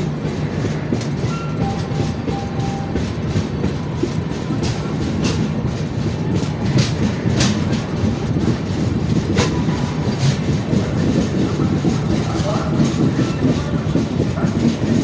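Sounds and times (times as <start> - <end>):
clicks and clanks of train: 0.0 - 15.0
train wheels rumbling on rails: 0.0 - 15.0.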